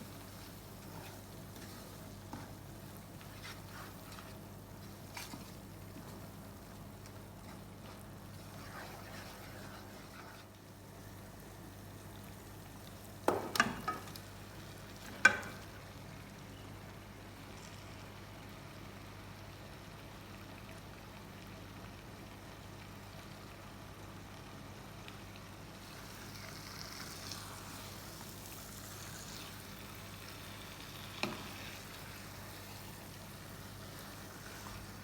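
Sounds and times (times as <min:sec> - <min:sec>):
food sizzling in a pot: 0:00.0 - 0:35.0.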